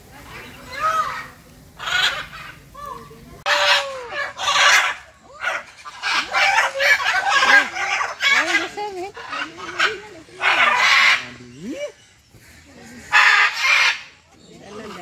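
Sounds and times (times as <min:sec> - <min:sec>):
birds making harsh calls: 0:00.2 - 0:15.0.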